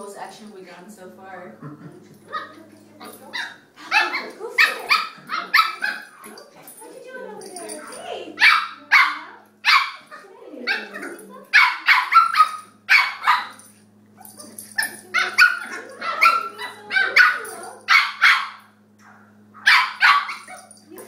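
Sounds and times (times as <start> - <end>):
puppies barking: 2.1 - 21.0.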